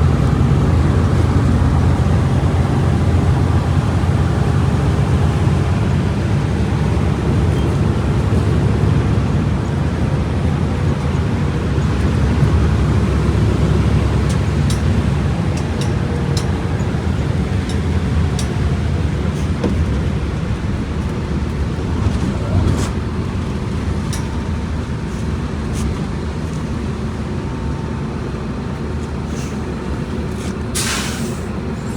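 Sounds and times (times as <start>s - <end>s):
diesel bus engine rumbling: 0.0s - 31.9s.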